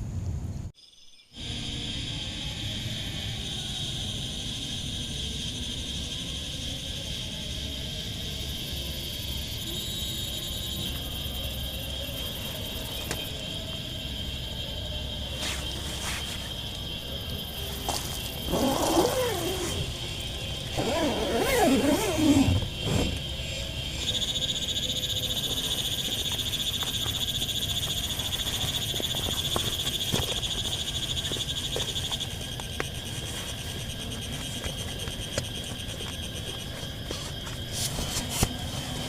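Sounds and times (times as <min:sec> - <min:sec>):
frogs croaking: 0:00.8 - 0:39.0.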